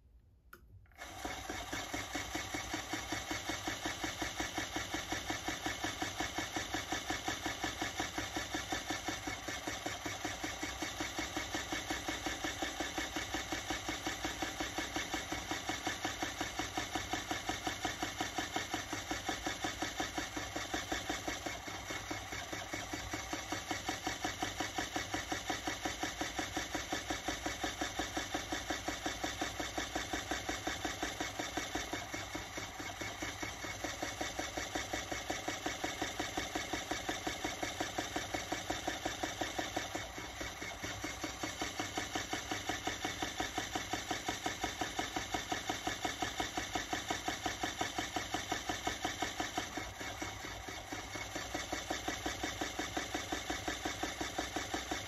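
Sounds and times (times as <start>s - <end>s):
electric spinning wheel motor: 0.9s - 55.0s.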